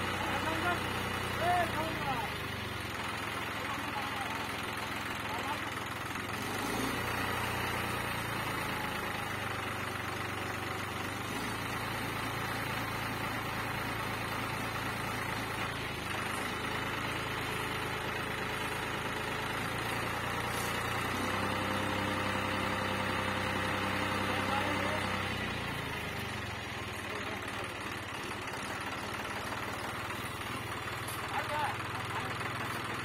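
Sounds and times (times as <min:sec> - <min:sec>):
tractor diesel engine idling: 0:00.0 - 0:33.0.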